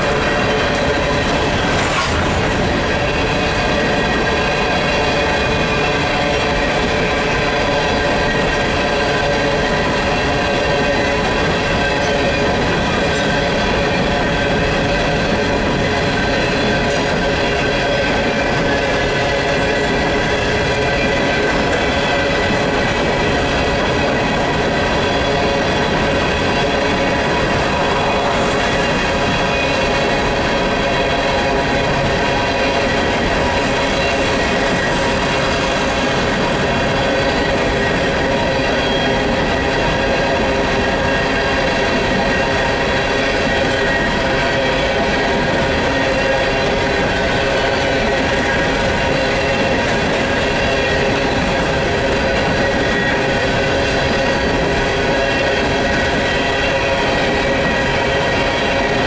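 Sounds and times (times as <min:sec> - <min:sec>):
ringing tones from wheels: 0:00.0 - 0:59.0
train wheels rolling on rail: 0:00.0 - 0:59.0.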